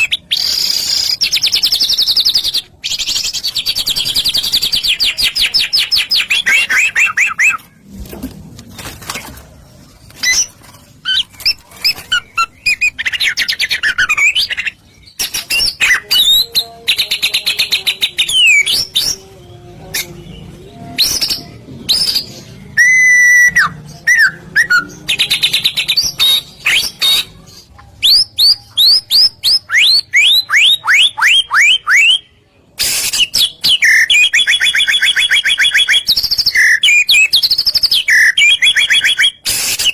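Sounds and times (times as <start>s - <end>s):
bird singing with chirps and trills: 0.0s - 7.8s, 9.8s - 39.9s.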